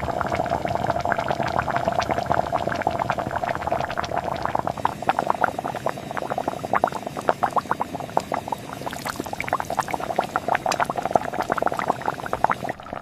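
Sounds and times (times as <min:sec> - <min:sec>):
pot of liquid boiling: 0:00.0 - 0:13.0.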